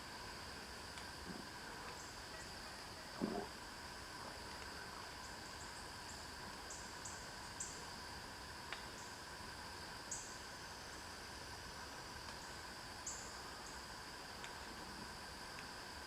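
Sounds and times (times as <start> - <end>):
cricket chirps: 0.0 - 16.0
insects high-pitched drone: 0.0 - 16.0.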